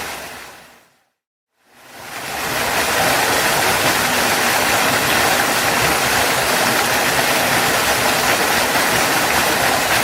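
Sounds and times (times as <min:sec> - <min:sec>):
waterfall rushing: 0:01.9 - 0:10.0.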